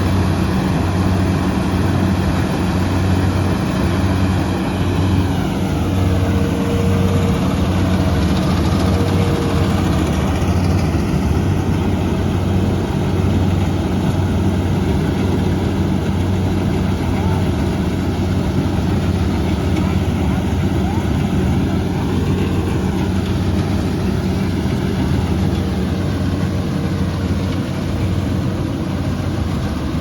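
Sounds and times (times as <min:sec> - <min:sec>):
combine harvester engine droning: 0:00.0 - 0:30.0.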